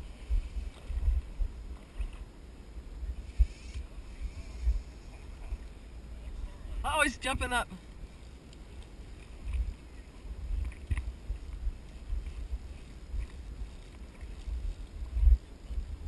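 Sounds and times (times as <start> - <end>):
wind buffeting microphone: 0.0 - 7.2, 8.0 - 16.0
faint river hiss: 0.0 - 16.0.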